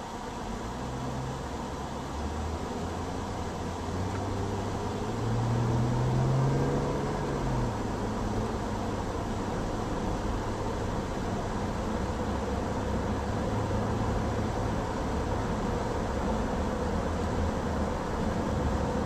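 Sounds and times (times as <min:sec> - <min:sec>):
car engine accelerating: 0:00.0 - 0:19.0
road noise inside car: 0:00.0 - 0:19.0.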